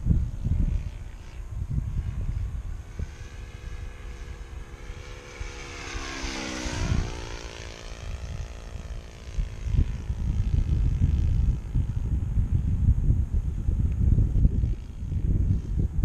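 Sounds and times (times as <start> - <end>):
model airplane engine flyby: 0.0 - 16.0.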